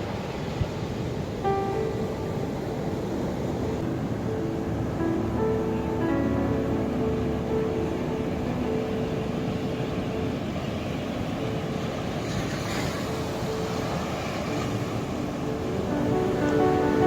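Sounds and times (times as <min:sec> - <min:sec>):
ocean surf washing: 0:00.0 - 0:17.0
soft music with held notes: 0:01.4 - 0:17.0.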